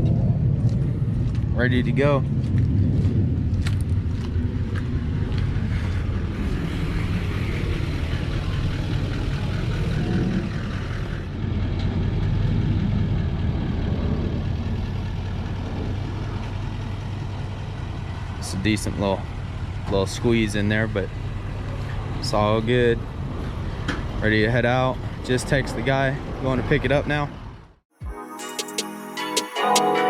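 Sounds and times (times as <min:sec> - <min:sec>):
vehicle engine rumbling: 0:00.0 - 0:27.8.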